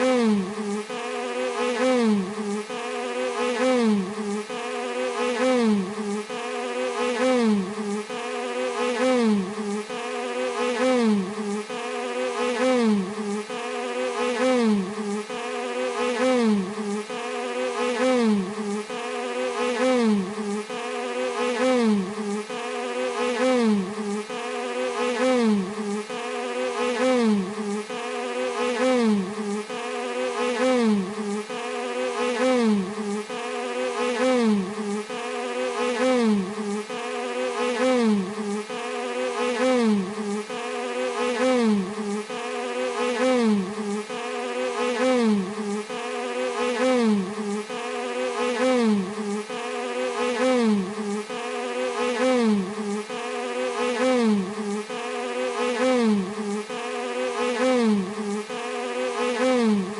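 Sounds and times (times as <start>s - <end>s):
bee buzzing: 0.0s - 59.9s.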